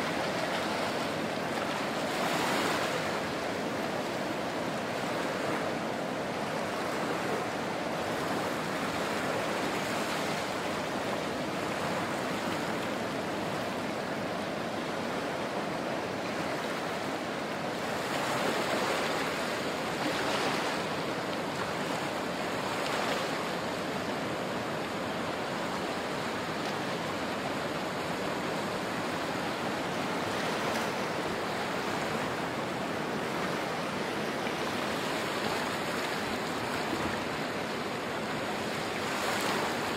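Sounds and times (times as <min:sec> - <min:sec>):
waves washing over sand and rocks: 0:00.0 - 0:39.9.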